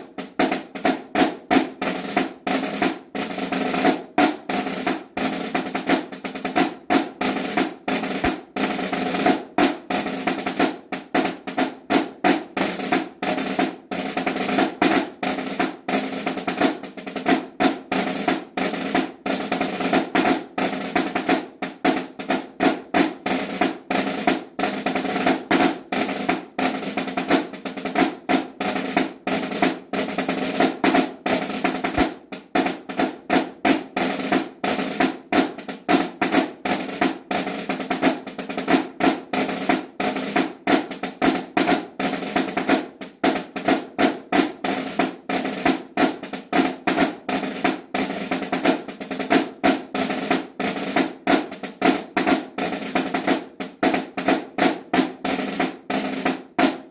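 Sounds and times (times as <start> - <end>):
snare drum march: 0.0 - 56.9.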